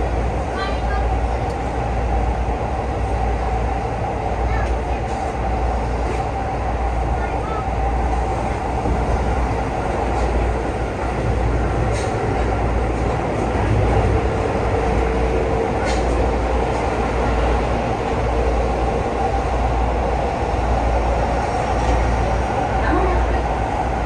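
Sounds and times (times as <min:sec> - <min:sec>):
train rumbling in a tunnel: 0:00.0 - 0:24.0.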